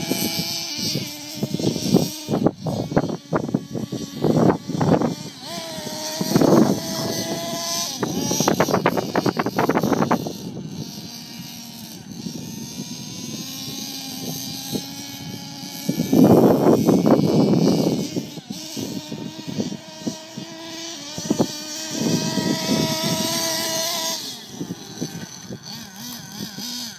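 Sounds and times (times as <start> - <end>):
rc truck motor buzzing: 0.0 - 26.9.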